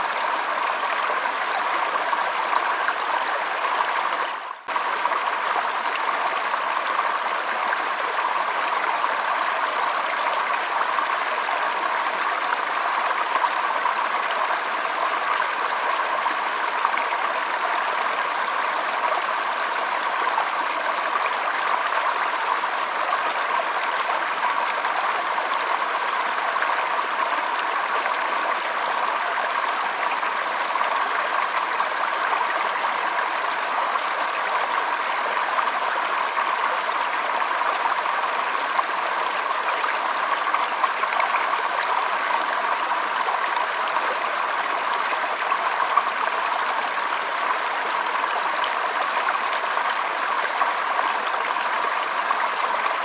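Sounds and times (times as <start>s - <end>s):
stream flowing over stones: 0.0s - 53.0s.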